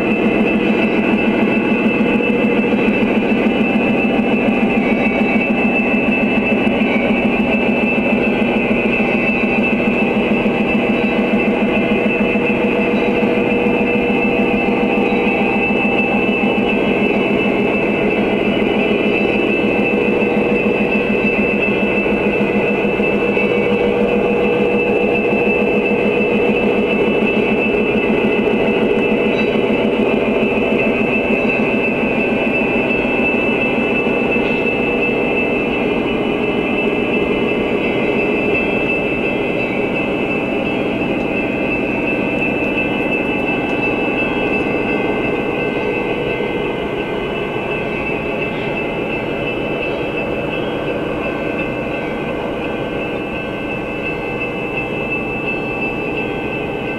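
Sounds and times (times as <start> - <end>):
model train whirring and rumbling: 0.0 - 56.9
whining tones: 0.0 - 56.9.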